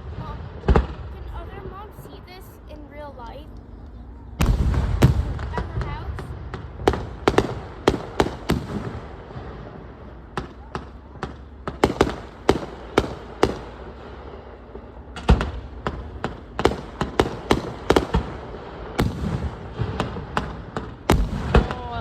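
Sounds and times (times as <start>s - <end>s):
fireworks bangs: 0.0s - 3.4s, 4.4s - 22.0s.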